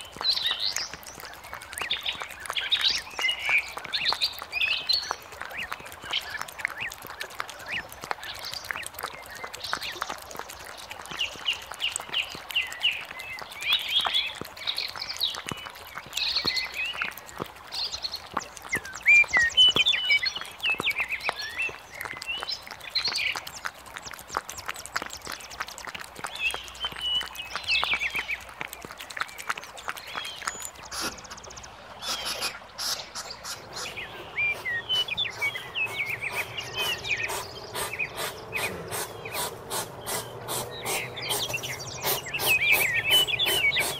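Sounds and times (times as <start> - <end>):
hedgehog chewing clicks: 0.0 - 43.9
songbirds chirping and trilling: 0.0 - 43.9.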